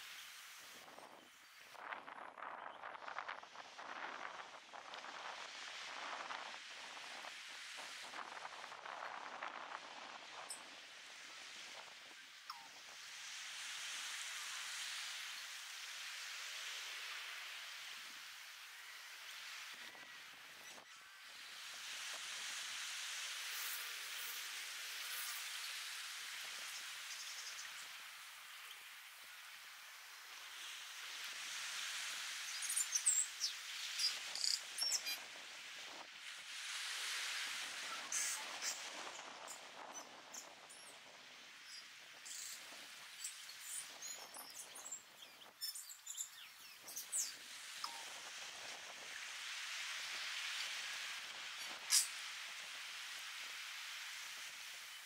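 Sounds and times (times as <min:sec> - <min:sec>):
small waves washing onto shore: 0:00.0 - 0:44.5, 0:47.2 - 0:55.0.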